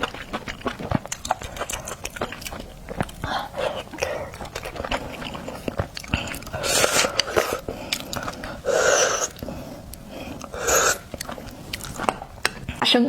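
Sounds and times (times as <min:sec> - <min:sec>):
sucking slurps: 0:00.0 - 0:12.8
wet chewing and mouth clicks: 0:00.0 - 0:13.0.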